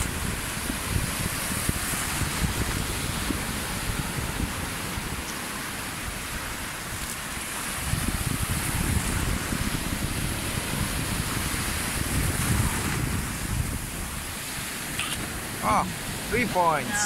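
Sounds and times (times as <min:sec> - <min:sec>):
surf washing over rocks: 0:00.0 - 0:17.0
wind on microphone: 0:00.0 - 0:17.0.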